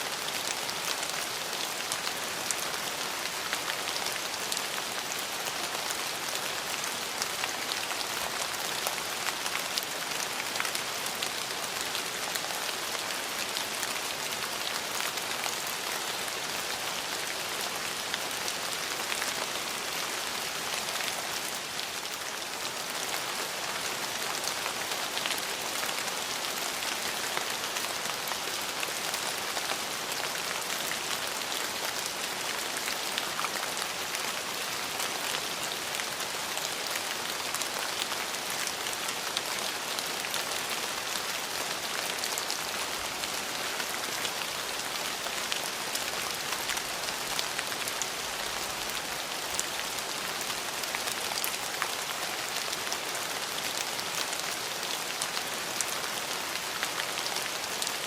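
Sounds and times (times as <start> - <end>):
steady rain on hard surfaces: 0.0 - 58.0.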